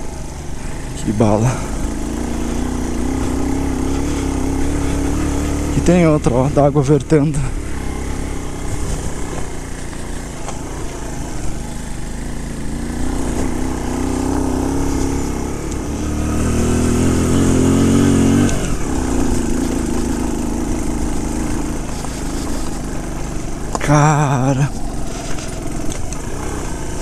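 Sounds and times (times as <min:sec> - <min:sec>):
motorcycle engine under throttle: 0:00.0 - 0:27.0.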